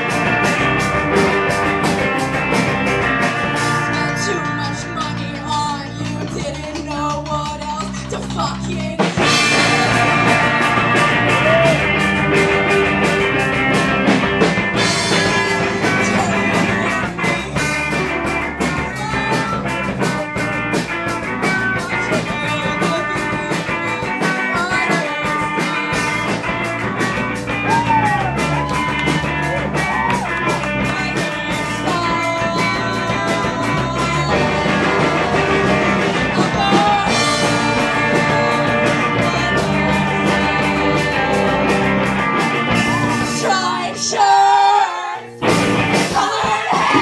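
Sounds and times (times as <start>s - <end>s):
drum kit beat: 0.0s - 44.5s, 45.4s - 47.0s
electric guitar: 0.0s - 47.0s
rock band playing live: 0.0s - 47.0s.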